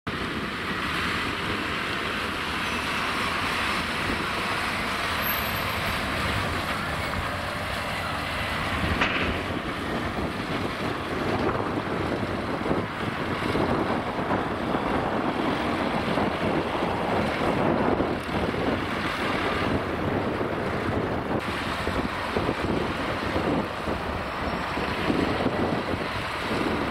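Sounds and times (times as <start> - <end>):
diesel engine running: 0.1 - 26.9.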